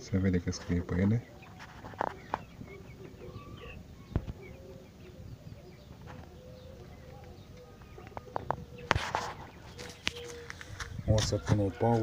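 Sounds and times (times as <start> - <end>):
dove cooing: 0.4 - 12.0
high bird chirps: 1.2 - 11.2.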